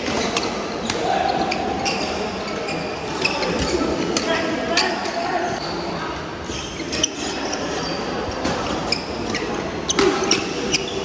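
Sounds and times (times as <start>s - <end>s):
shoe squeaks: 0.1s - 11.0s.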